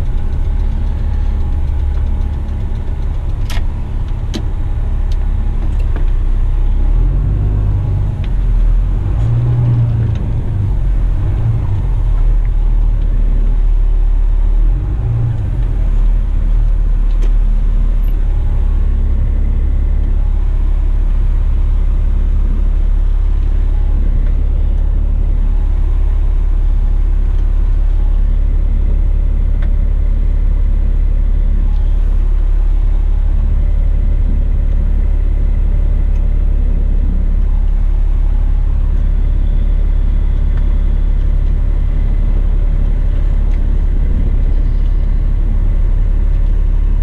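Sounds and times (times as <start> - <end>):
diesel truck engine reversing: 0.0 - 47.0.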